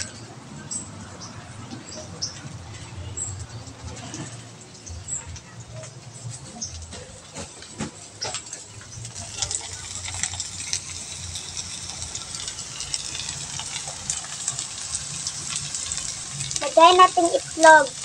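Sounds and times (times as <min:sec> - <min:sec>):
okra sizzling in hot oil: 0:00.0 - 0:18.0.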